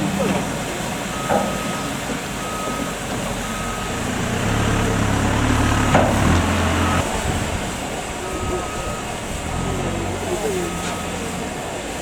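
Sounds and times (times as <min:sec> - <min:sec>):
low engine rumble: 0:00.0 - 0:12.0
reversing alarm beeping: 0:01.0 - 0:07.3, 0:08.2 - 0:11.7.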